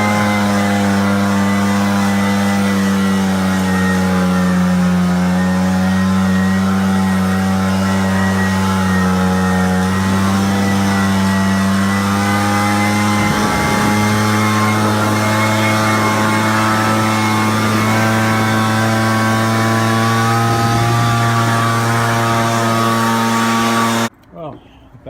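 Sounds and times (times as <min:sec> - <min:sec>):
leaf blower running: 0:00.0 - 0:24.1.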